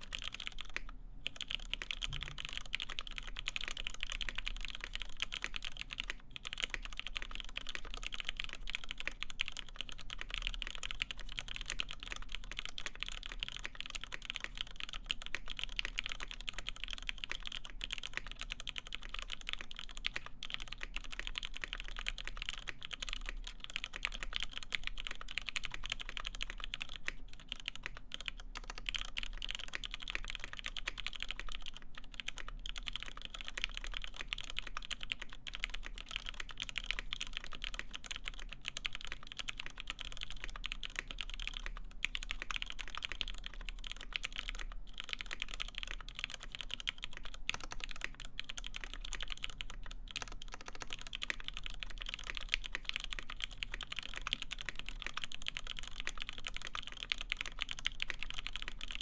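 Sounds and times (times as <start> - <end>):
fast typing on mechanical keyboard: 0.0 - 59.0.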